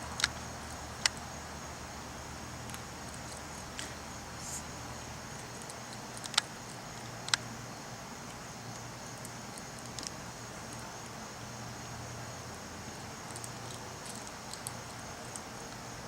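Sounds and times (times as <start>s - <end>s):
background hiss: 0.0s - 16.0s
crickets chirping: 0.0s - 16.0s.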